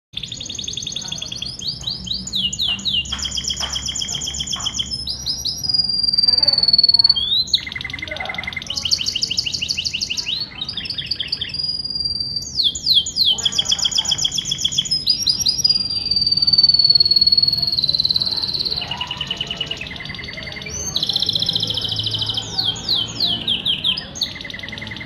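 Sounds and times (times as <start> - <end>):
canary singing trills: 0.2 - 25.0.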